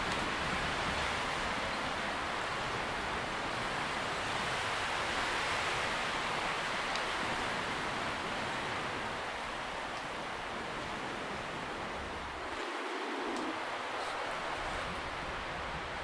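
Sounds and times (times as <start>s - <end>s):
wind rustling tree leaves: 0.0s - 16.0s.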